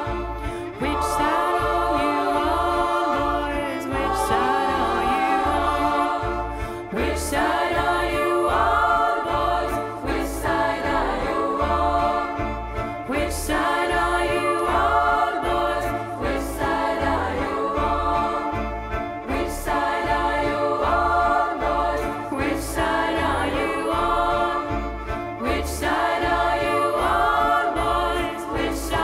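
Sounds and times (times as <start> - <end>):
choir singing: 0.0 - 29.0
musical accompaniment: 0.0 - 29.0.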